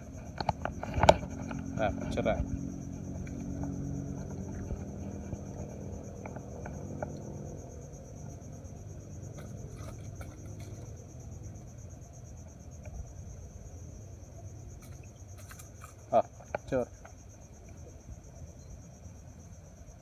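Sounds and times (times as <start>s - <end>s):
insect trilling: 0.0s - 20.0s.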